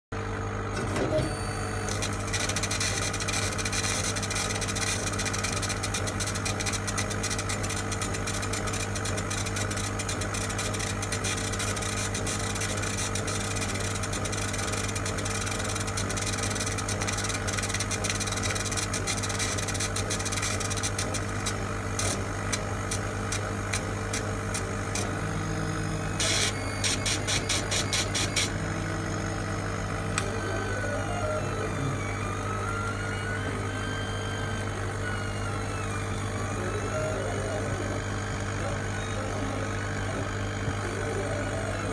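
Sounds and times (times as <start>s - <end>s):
laser cutter humming: 0.2s - 41.9s.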